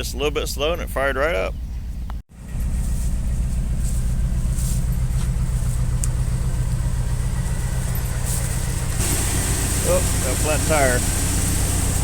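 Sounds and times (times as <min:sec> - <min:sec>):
pickup engine idling: 0:02.3 - 0:12.0.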